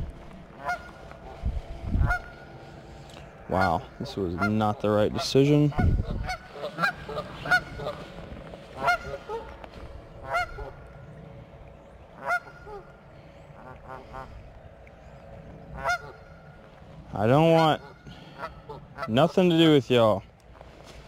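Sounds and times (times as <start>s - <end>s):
geese honking: 0.0s - 11.3s, 12.0s - 14.6s, 15.5s - 19.8s.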